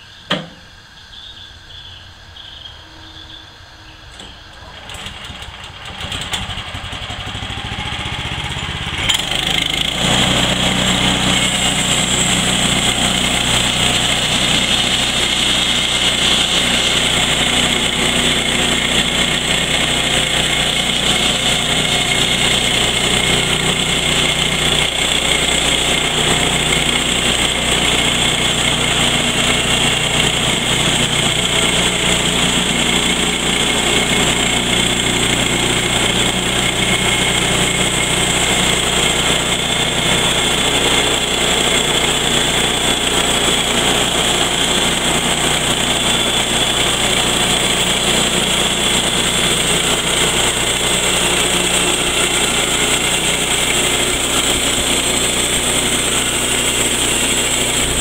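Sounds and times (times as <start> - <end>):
sawmill gas engine revving: 4.0 - 58.0
band blade cutting wood: 9.1 - 58.0.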